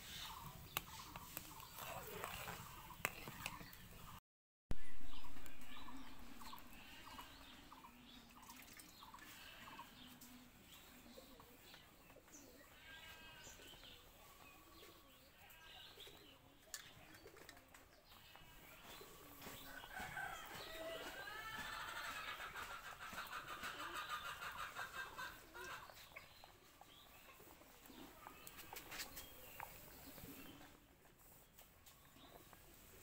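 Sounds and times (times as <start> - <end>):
birds chirping and calling: 0.0 - 4.2, 4.8 - 32.8.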